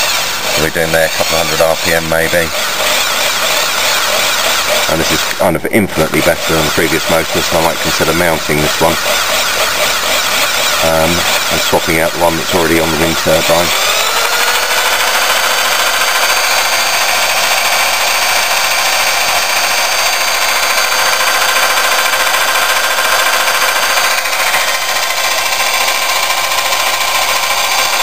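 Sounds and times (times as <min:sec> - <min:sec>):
electric drill whining: 0:00.0 - 0:28.0.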